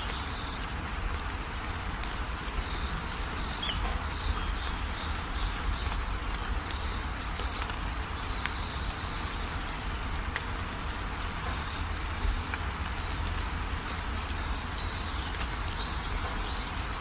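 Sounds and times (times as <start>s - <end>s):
songbird chirping: 0.0s - 17.0s
steady rain falling: 0.0s - 17.0s.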